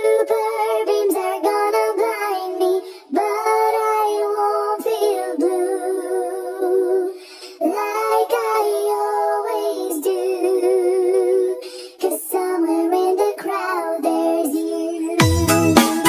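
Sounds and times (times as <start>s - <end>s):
high singing voice with vibrato: 0.0s - 16.0s.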